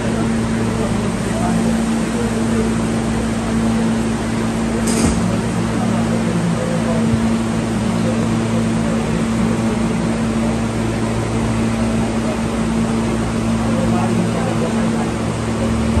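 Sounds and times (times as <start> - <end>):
constant low hum: 0.0 - 16.0
subway wheels rumbling on track: 0.0 - 16.0.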